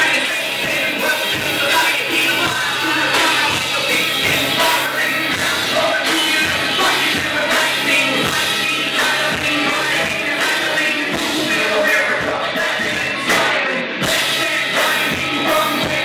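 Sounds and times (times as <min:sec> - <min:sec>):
drum kit: 0:00.0 - 0:16.0
electric guitar: 0:00.0 - 0:16.0
person singing: 0:00.0 - 0:16.0.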